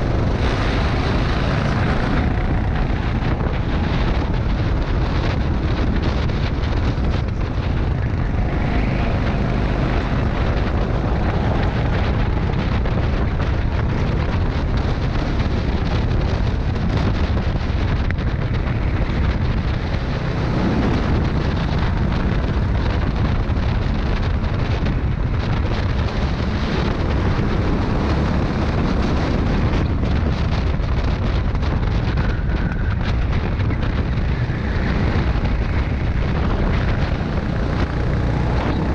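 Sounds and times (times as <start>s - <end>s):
go-kart engine: 0.0s - 38.9s
wind buffeting microphone: 0.0s - 38.9s.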